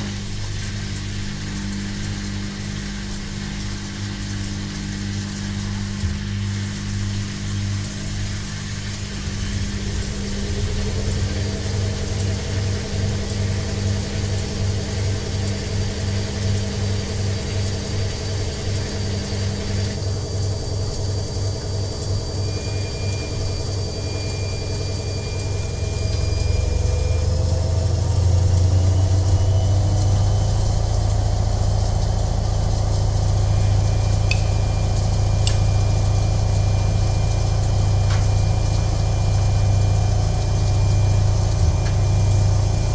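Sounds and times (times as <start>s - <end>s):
washing machine running: 0.0s - 42.9s.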